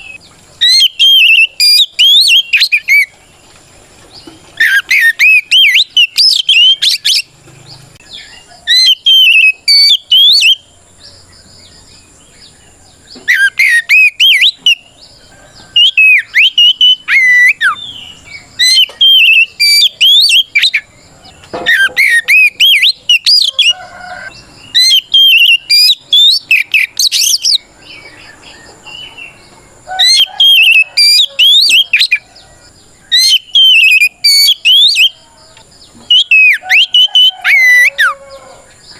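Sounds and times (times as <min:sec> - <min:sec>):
magpie-robin whistled song: 0:00.0 - 0:03.2, 0:04.2 - 0:07.3, 0:08.0 - 0:38.9.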